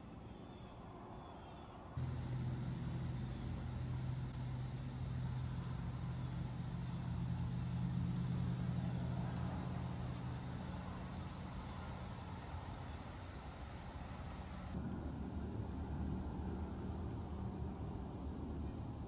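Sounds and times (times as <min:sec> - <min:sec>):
low engine hum: 0:02.0 - 0:19.0.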